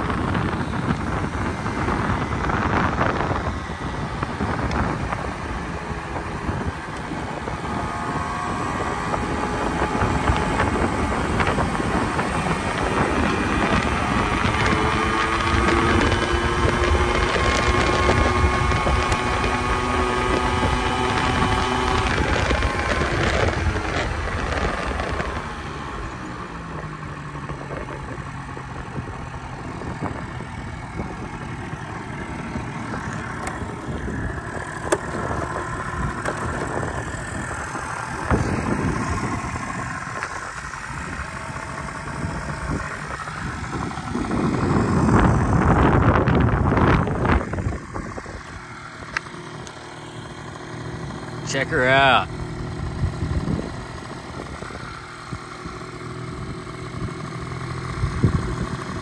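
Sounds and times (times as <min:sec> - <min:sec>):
scooter engine running: 0:00.0 - 0:59.0
wind rushing over microphone: 0:00.0 - 0:59.0.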